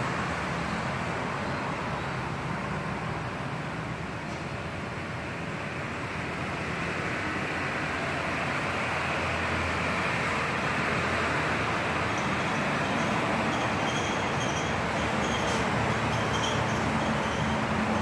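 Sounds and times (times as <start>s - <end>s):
passing vehicle traffic: 0.0s - 18.0s.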